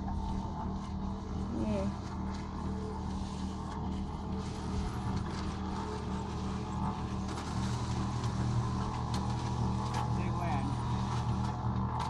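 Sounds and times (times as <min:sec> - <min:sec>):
cement mixer humming: 0:00.0 - 0:12.0.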